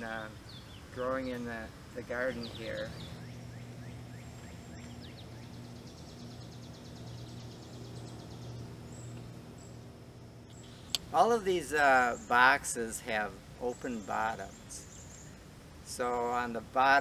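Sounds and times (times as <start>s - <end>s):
faint bird chirps: 0.0s - 11.3s, 13.6s - 16.2s
steady low hum: 0.0s - 17.0s.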